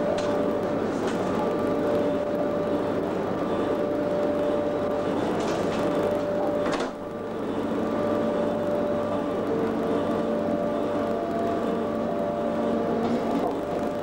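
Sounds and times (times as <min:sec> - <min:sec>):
locomotive motor whine: 0:00.0 - 0:14.0.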